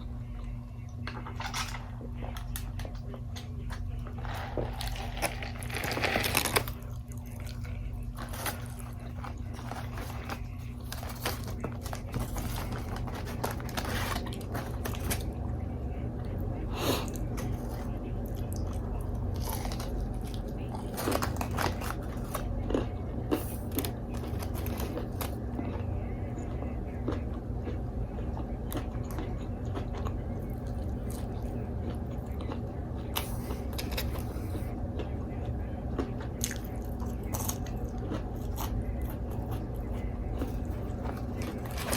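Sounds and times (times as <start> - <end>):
steady low hum: 0.0 - 41.9
person chewing: 1.4 - 15.3, 16.2 - 41.9.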